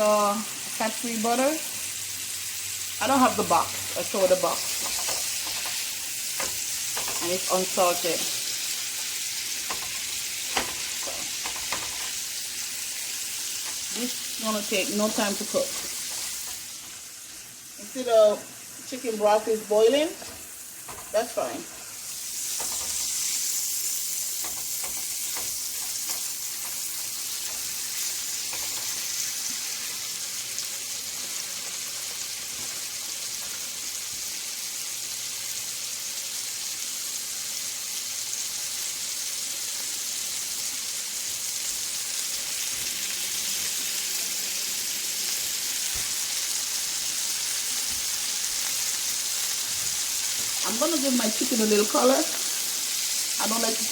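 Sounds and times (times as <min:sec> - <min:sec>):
chicken sizzling in a pan: 0:00.0 - 0:53.9.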